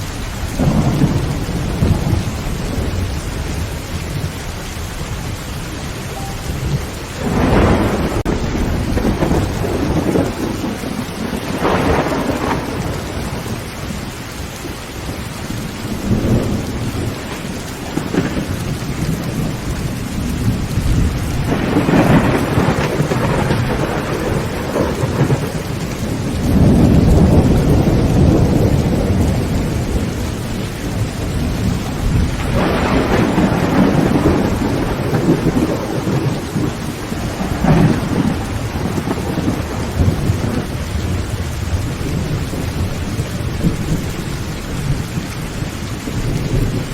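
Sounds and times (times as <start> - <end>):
heavy rain on a tin roof: 0.0 - 46.9
thunder rumbling: 0.0 - 46.9.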